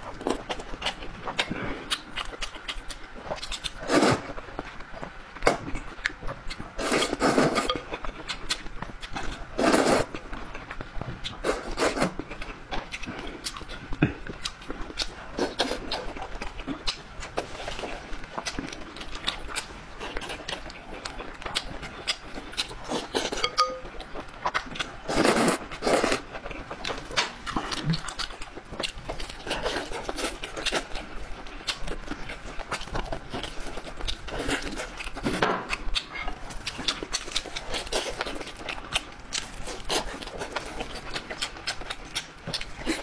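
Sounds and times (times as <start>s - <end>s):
wet chewing clicks: 4.6s - 43.0s.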